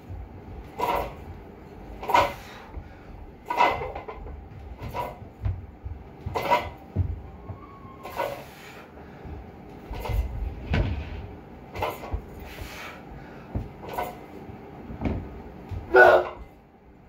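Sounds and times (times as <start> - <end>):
noisy bursts of weight reps: 0.1 - 5.4, 6.0 - 14.5.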